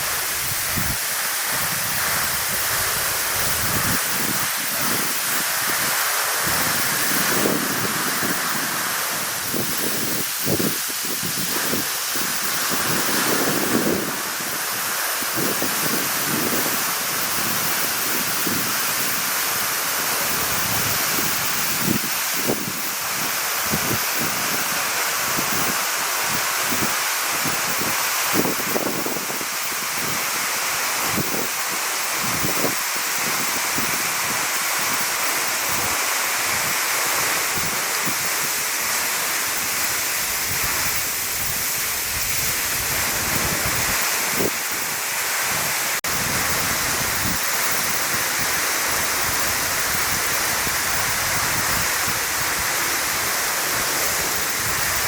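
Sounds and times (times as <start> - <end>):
waterfall rushing: 0.0 - 55.0
wind on microphone: 0.0 - 55.0.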